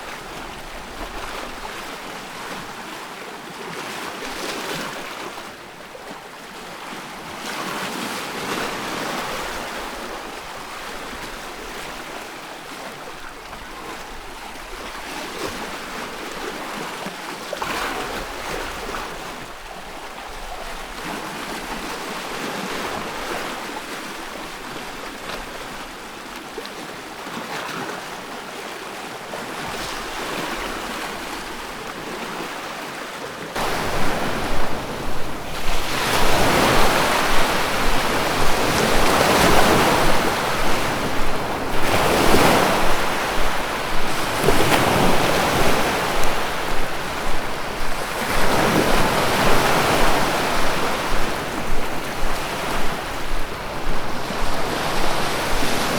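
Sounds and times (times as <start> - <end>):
ocean waves washing ashore: 0.0 - 55.9.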